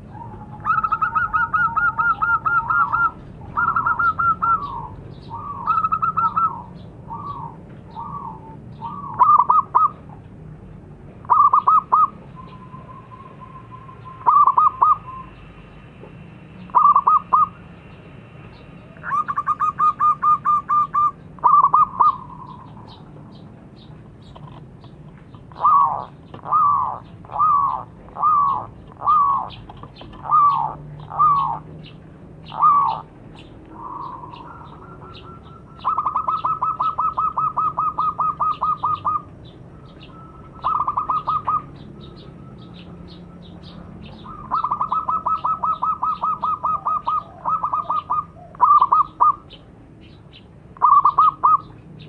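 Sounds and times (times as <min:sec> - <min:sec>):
dove cooing: 0:00.0 - 0:10.2, 0:11.2 - 0:15.4, 0:16.7 - 0:17.6, 0:18.8 - 0:23.3, 0:25.4 - 0:31.7, 0:32.4 - 0:49.6, 0:50.8 - 0:51.8.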